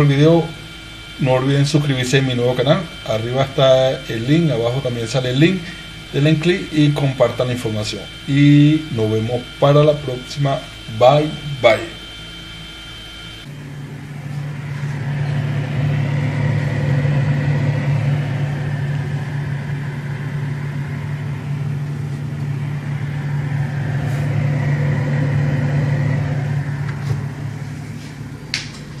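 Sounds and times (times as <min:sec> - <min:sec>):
refrigerator compressor hum: 0:00.0 - 0:29.0.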